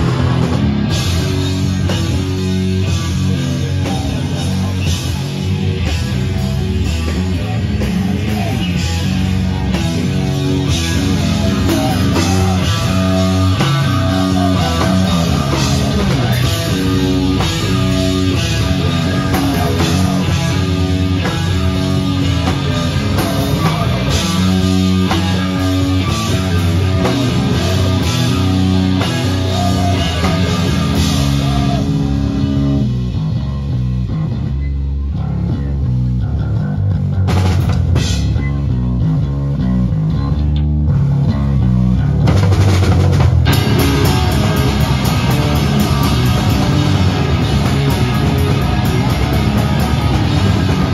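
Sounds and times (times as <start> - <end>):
distorted electric guitars: 0.0 - 50.9
drum kit: 0.0 - 50.9.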